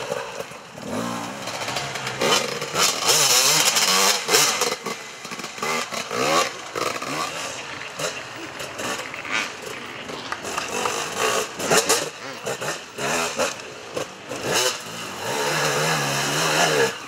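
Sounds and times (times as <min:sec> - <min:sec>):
motorcycles revving: 0:00.0 - 0:17.0.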